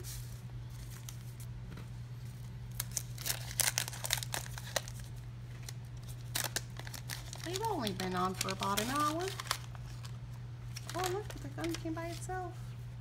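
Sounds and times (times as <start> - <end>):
wax paper wrapper crinkling: 0.0 - 1.5, 2.2 - 12.6
steady low hum: 0.0 - 13.0.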